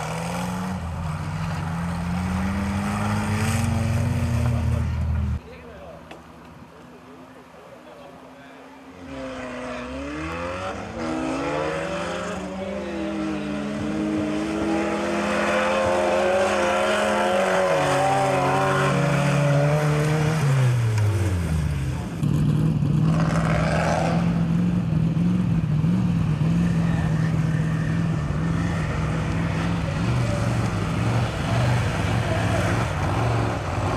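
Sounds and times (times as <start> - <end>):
engine revving: 0.0 - 5.4, 9.0 - 33.9.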